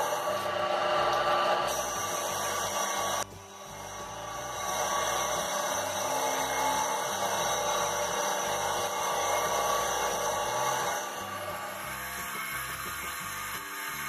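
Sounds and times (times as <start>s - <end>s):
cutter shaving wood: 0.0s - 14.0s
lathe motor whirring: 0.0s - 14.0s.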